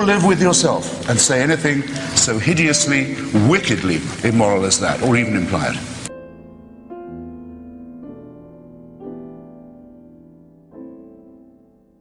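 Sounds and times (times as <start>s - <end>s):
slow soft piano chords: 0.0s - 12.0s.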